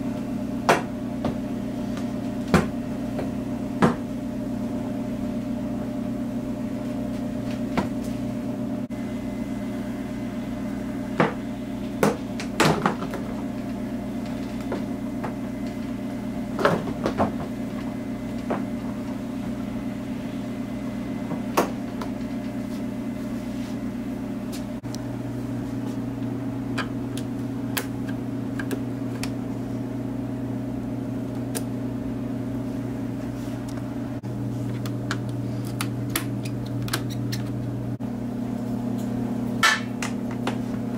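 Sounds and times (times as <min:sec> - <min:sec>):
steady electrical hum: 0:00.0 - 0:40.9.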